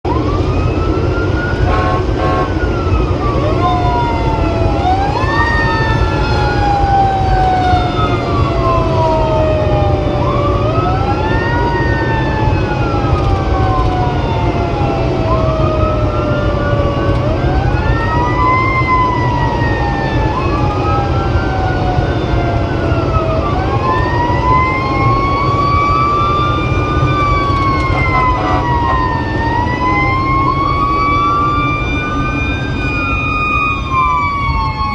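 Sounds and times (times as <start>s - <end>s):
fire engine siren wailing: 0.0s - 34.9s
road noise: 0.0s - 34.9s
truck engine rumble: 0.0s - 34.9s.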